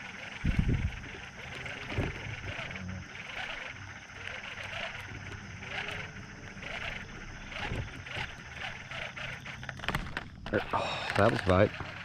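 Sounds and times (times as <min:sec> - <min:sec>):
repeated animal calls: 0:00.0 - 0:09.8.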